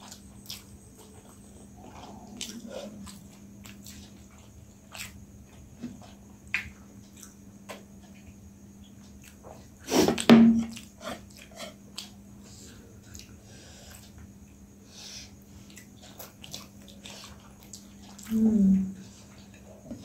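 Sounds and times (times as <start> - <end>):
chewing: 0.0 - 14.6, 15.3 - 20.0.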